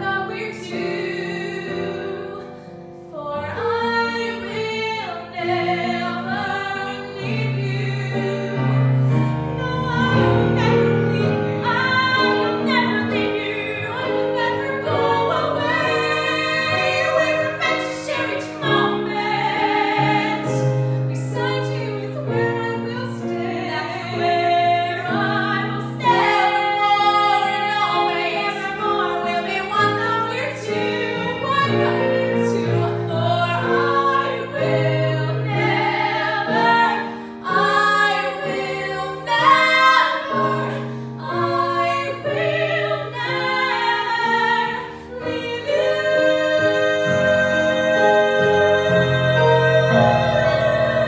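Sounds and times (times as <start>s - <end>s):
girls singing a duet: 0.0s - 51.0s
piano accompaniment: 0.0s - 51.0s.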